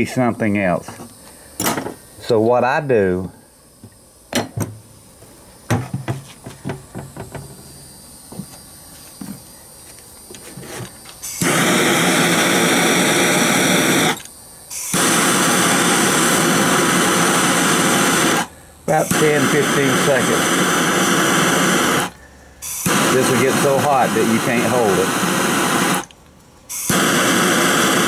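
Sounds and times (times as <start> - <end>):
gas torch flame hissing: 0.0 - 28.0.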